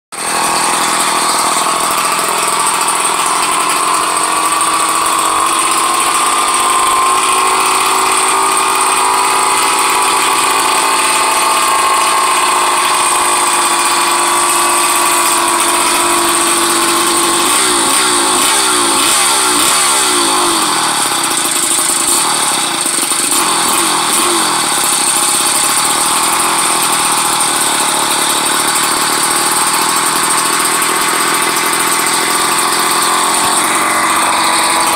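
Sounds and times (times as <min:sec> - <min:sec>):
two-stroke engine idling: 0:00.1 - 0:34.9.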